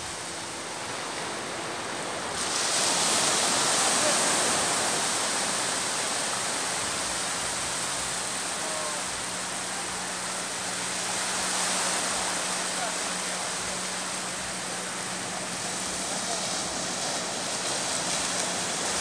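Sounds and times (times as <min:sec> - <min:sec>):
surf washing up a beach: 0:00.0 - 0:19.0.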